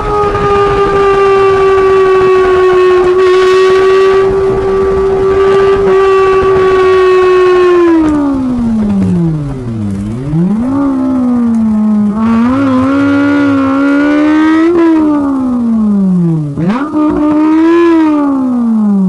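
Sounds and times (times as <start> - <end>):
car engine high siren-like note: 0.0 - 19.0.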